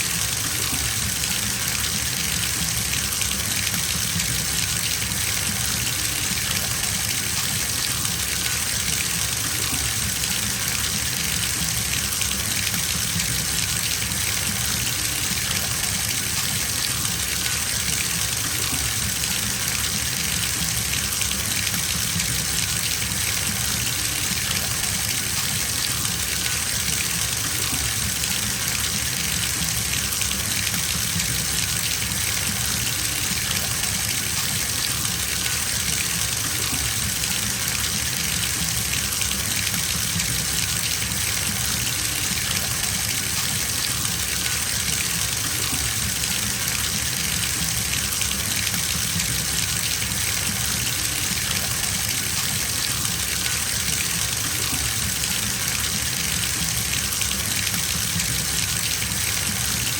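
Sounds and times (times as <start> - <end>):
water gushing from a bathtub tap: 0.0 - 59.9.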